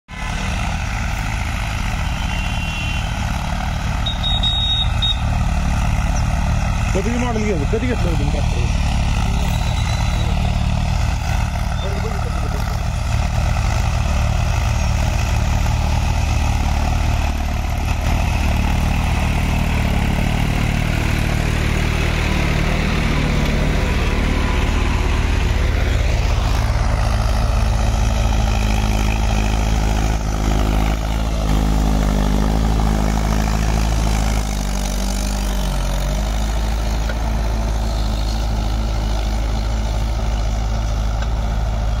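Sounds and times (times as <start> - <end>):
tractor engine running: 0.1 - 42.0.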